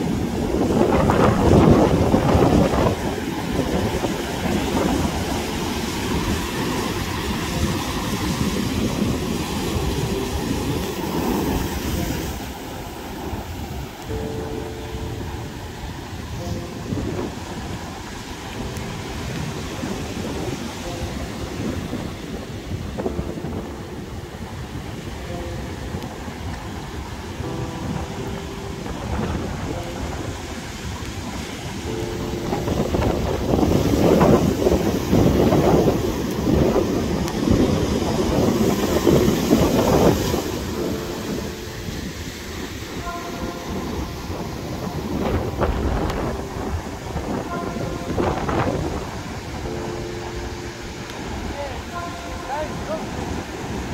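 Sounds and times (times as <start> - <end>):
surf washing: 0.0 - 53.9
wind buffeting microphone: 0.0 - 53.9.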